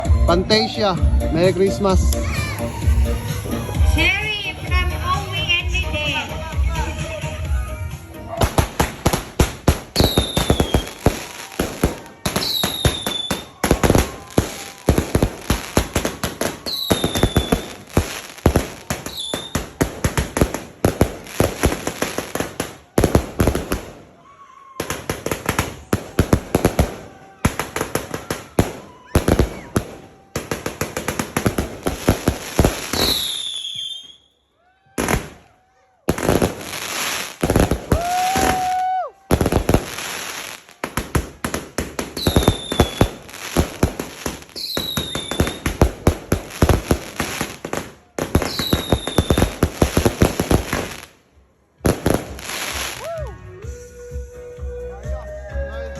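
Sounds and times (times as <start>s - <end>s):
fireworks firing in volleys: 0.0s - 34.3s, 34.9s - 53.3s.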